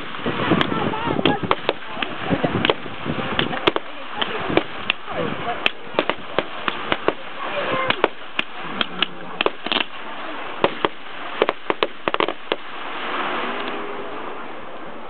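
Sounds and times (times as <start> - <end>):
fireworks popping and banging: 0.0 - 12.8.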